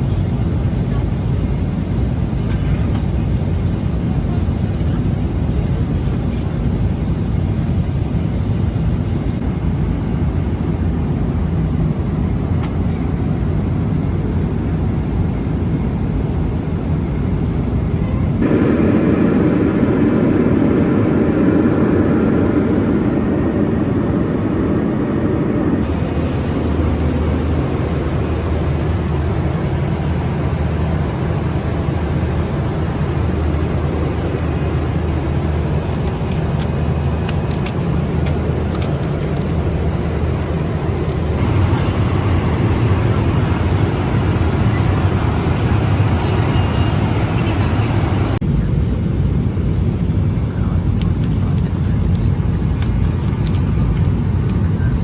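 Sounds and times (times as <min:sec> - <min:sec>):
jet engine cabin noise: 0:00.0 - 0:55.0.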